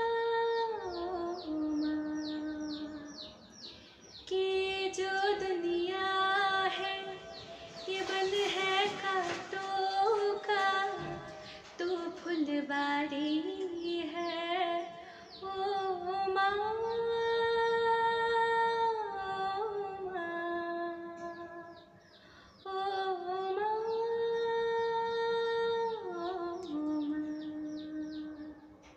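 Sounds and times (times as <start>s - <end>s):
woman singing slow melody: 0.0s - 3.5s, 4.2s - 28.9s.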